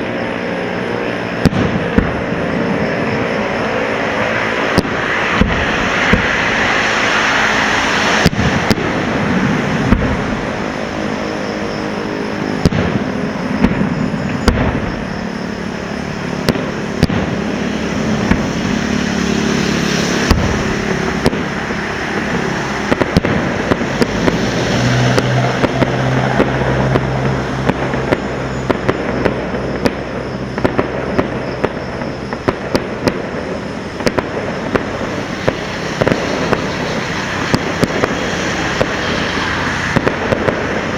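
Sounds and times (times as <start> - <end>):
fireworks cracks and bangs: 0.0 - 40.9
fireworks hissing fizz: 0.0 - 40.9
low hum: 0.0 - 40.9.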